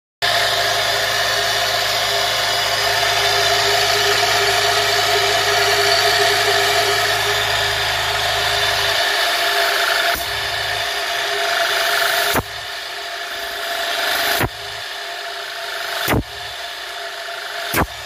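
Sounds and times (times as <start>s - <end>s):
air compressor running: 0.2s - 18.0s.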